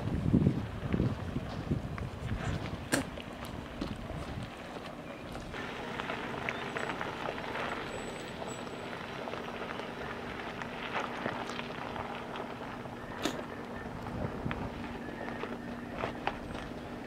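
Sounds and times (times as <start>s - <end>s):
low engine hum: 0.0s - 17.0s
tires crunching over gravel: 0.0s - 17.0s.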